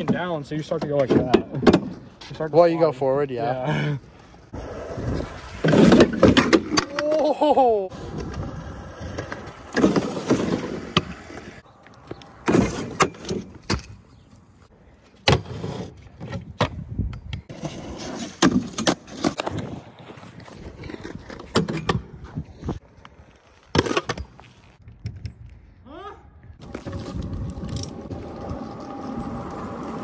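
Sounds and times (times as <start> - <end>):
scooter wheels rolling on concrete: 0.0 - 25.8, 26.4 - 30.0.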